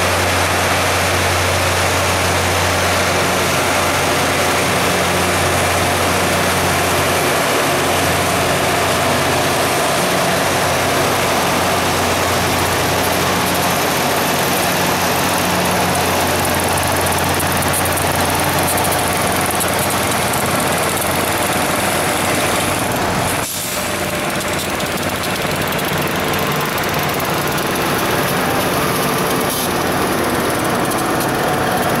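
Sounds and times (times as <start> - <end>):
diesel engines humming: 0.0 - 32.0
rail grinding noise: 0.0 - 32.0.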